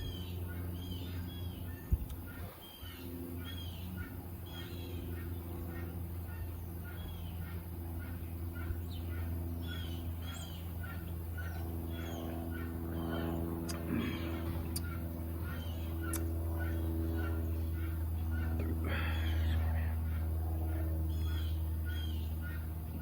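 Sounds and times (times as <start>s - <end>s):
bird chirping: 0.0s - 19.7s
steady low hum: 0.0s - 23.0s.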